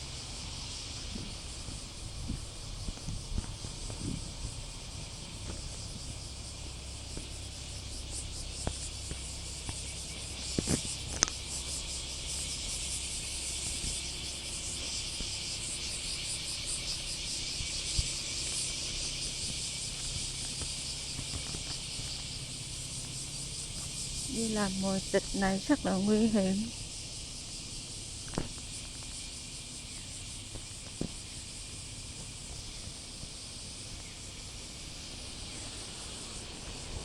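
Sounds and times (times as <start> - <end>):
cicadas buzzing: 0.0 - 37.0
low background rumble: 0.0 - 37.0.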